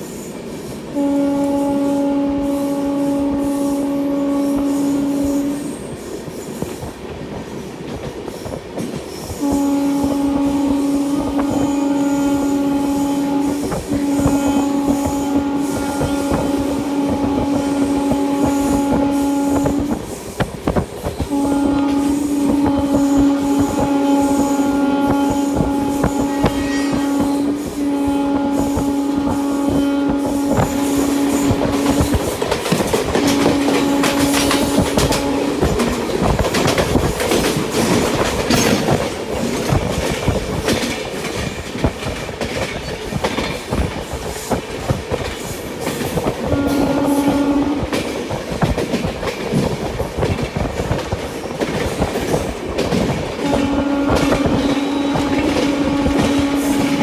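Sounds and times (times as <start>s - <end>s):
train wheels clattering on rails: 0.0s - 57.0s
train horn blasts: 0.8s - 6.2s, 9.3s - 41.0s, 41.7s - 57.0s.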